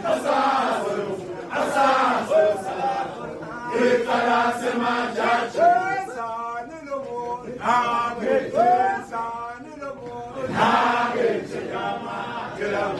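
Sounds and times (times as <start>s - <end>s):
men chanting in unison: 0.0s - 12.9s.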